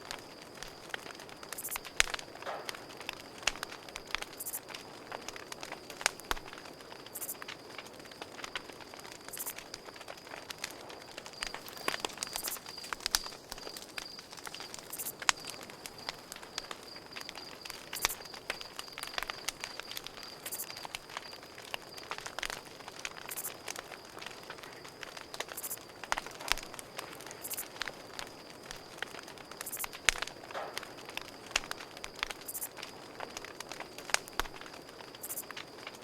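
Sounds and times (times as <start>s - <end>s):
campfire crackling and popping: 0.0s - 36.0s
crickets trilling: 0.0s - 36.0s
hissing flares: 0.0s - 36.0s.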